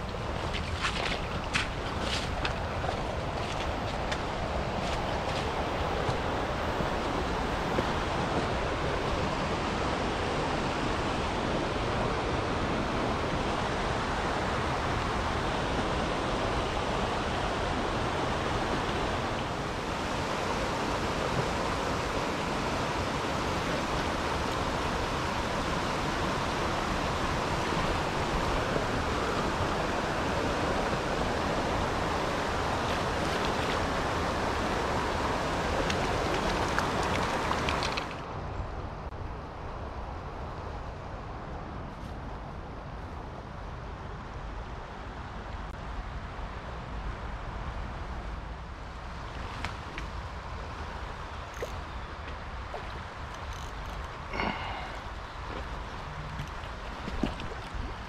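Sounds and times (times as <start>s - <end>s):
river flowing over rocks: 0.0s - 38.3s, 47.4s - 58.0s.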